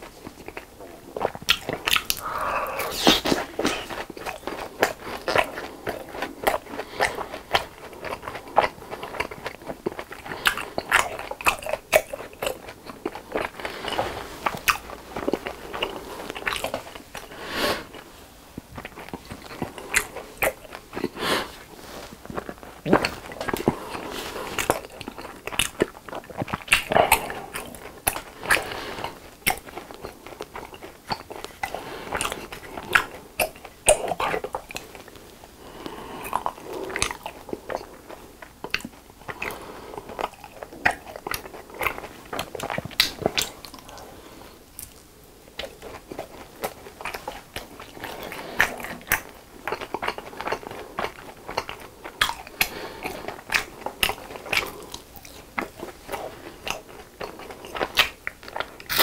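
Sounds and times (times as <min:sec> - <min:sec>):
chewing and crunching fried snack: 0:00.0 - 0:59.0.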